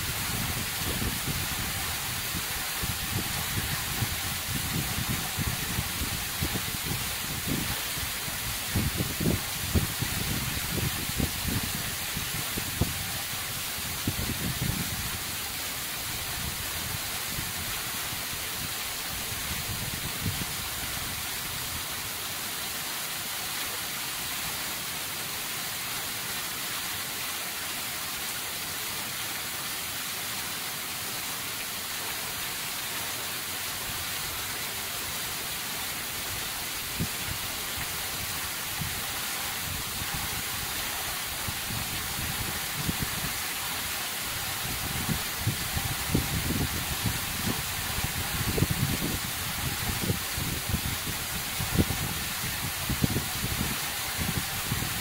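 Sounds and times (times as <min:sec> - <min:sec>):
waterfall splashing onto rock: 0:00.0 - 0:55.0.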